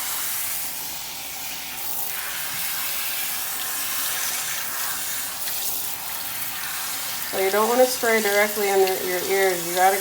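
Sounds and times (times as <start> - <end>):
water sprayer hissing: 0.0 - 10.0.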